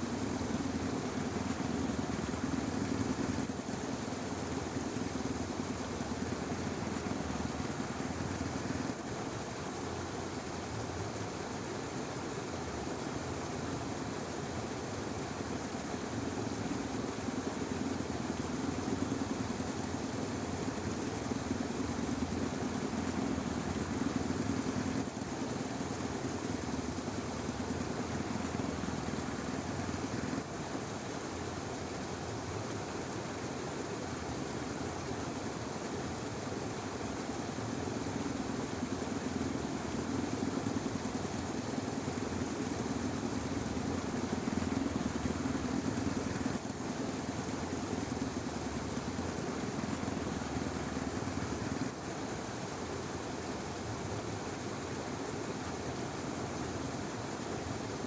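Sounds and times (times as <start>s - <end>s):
faint high insect or bird noise: 0.0s - 58.0s.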